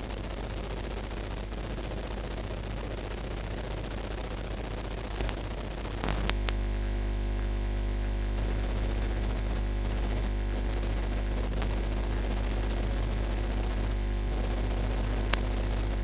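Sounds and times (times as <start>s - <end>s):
electrical mains hum and hiss: 0.0s - 16.0s.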